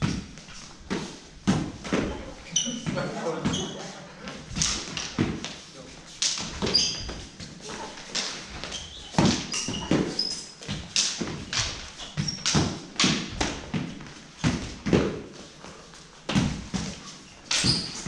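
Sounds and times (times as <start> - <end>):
feet stamping on floor: 0.0 - 3.7, 6.2 - 18.0.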